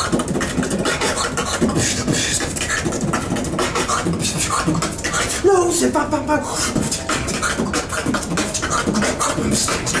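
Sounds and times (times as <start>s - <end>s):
beatboxing: 0.0s - 10.0s.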